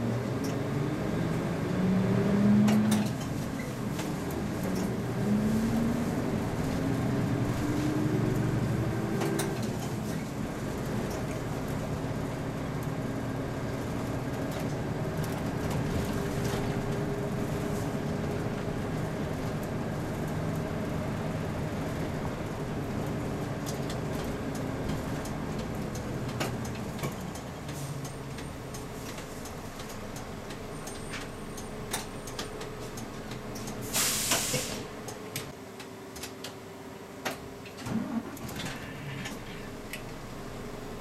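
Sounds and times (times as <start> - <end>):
bus diesel engine: 0.0 - 41.0.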